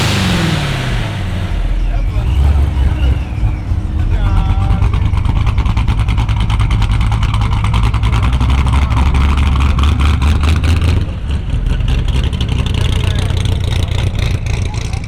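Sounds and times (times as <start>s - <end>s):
muscle car engine rumbling: 0.0s - 15.0s.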